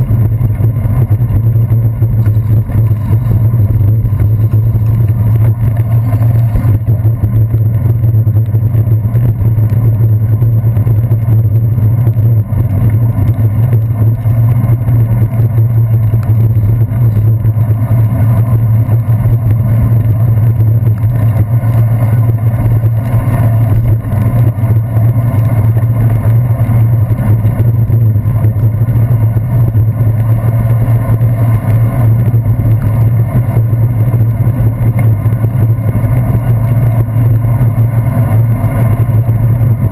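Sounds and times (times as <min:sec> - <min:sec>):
road vibration rumble: 0:00.0 - 0:39.9
wind noise: 0:00.0 - 0:39.9.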